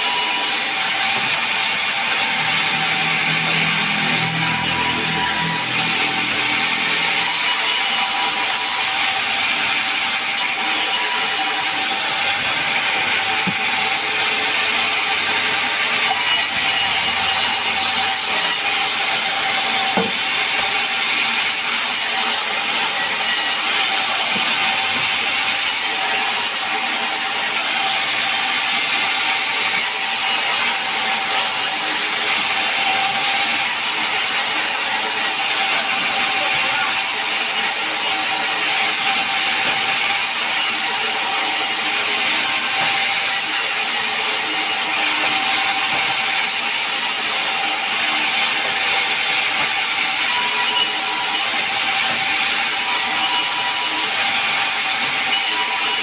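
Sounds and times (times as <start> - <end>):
sawmill saw cutting logs: 0.0 - 56.0.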